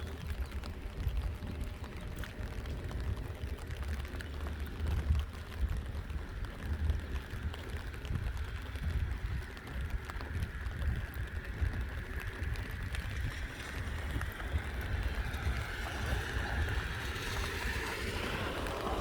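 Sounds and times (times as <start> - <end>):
distant rumble and hiss: 0.0 - 19.0
wind buffeting microphone: 0.0 - 19.0.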